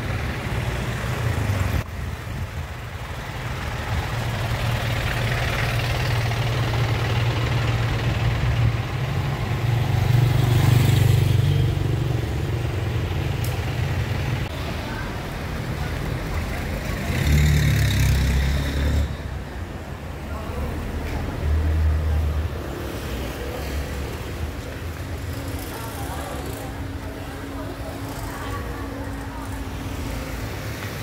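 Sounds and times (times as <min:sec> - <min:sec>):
motorcycles and cars passing: 0:00.0 - 0:31.0
vehicle engines running: 0:00.0 - 0:31.0.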